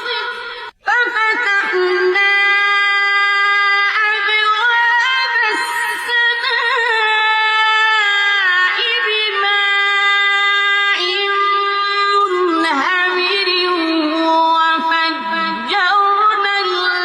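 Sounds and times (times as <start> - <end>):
person chanting melodic recitation: 0.0 - 17.0.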